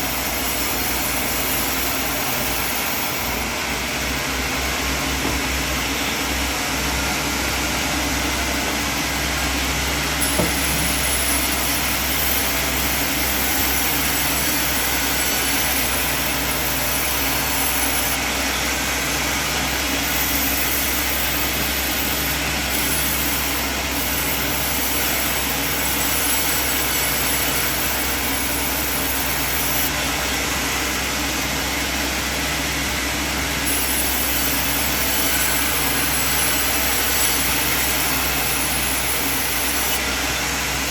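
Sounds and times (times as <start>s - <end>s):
sawmill machine running: 0.0s - 40.9s.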